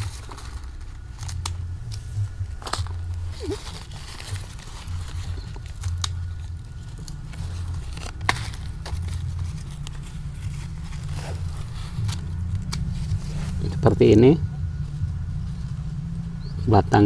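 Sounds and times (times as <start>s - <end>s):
plastic bag crinkling: 0.0s - 13.9s
low rumble: 0.0s - 17.0s.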